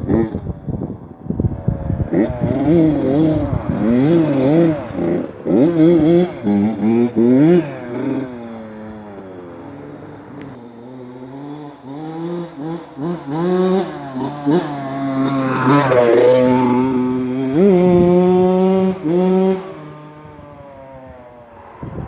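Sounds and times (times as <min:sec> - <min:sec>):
dirt bike engine revving: 0:01.4 - 0:21.1.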